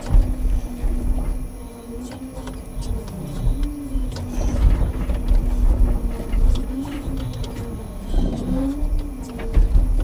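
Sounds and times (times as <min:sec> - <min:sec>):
hydraulic crane humming: 0:00.0 - 0:10.0
truck engine rumble: 0:00.0 - 0:10.0.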